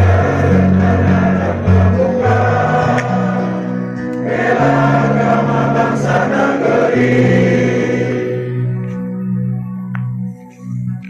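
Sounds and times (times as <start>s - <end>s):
choir singing held chords: 0.0s - 8.9s.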